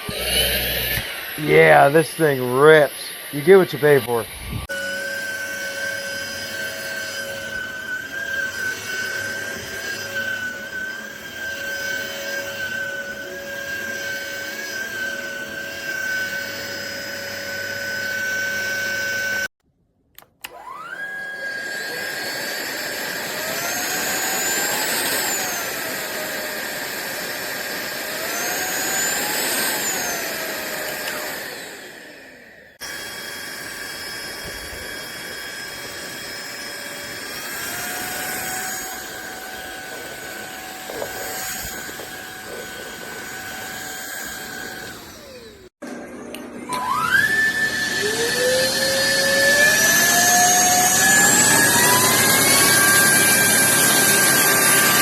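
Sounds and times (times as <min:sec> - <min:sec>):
vacuum cleaner motor whining: 0:00.0 - 0:19.5, 0:20.2 - 0:55.0.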